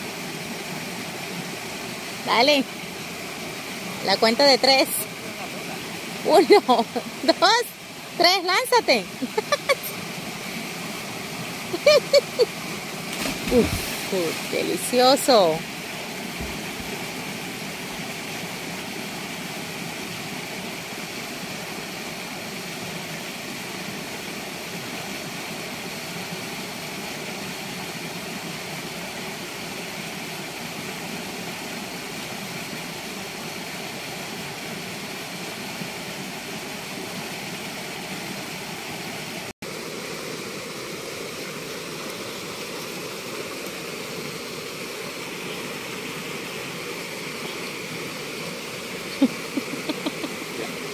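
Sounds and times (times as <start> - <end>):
river water rushing over weir: 0.0 - 50.9.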